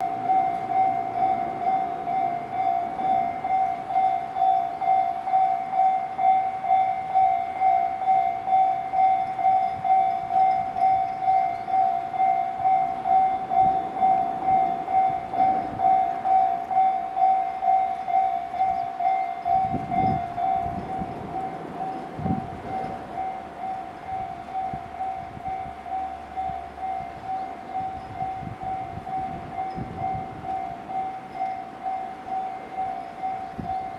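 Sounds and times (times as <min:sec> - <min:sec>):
level-crossing bell ringing: 0:00.0 - 0:33.9.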